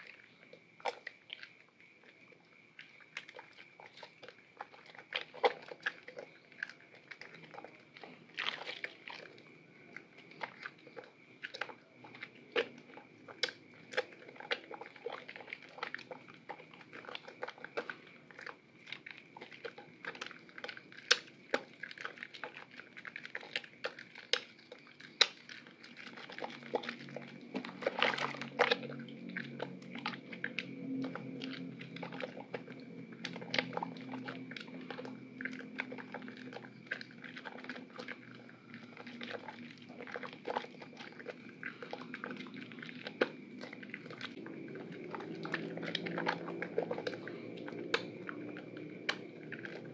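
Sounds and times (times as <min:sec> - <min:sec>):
wet soap squishing and popping: 0:00.0 - 0:49.9.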